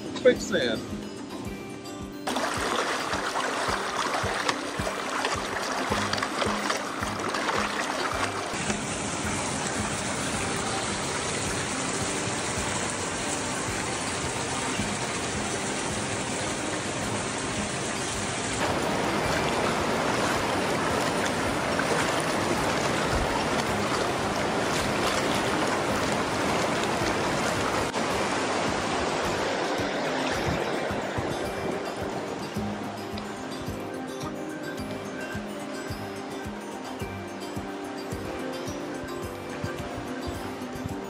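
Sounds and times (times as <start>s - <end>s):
river water rushing: 0.6s - 41.0s.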